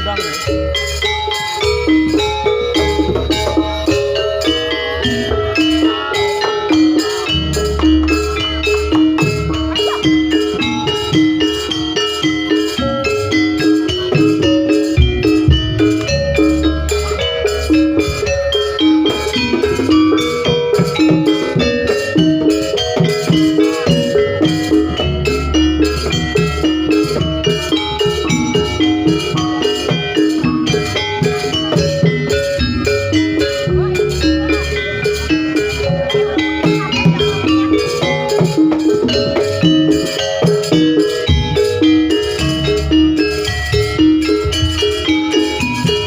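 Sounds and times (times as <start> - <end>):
drums: 0.0 - 46.0.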